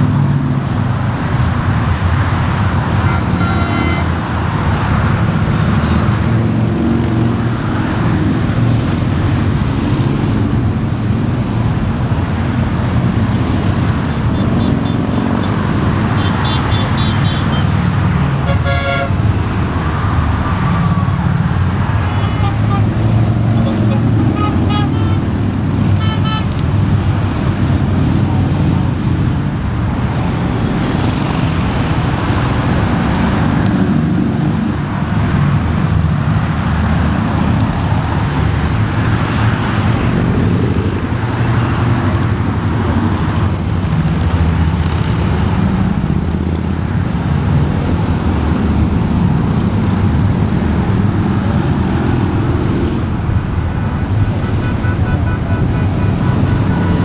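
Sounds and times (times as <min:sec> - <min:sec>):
motorcycle engines passing: 0:00.0 - 0:57.0.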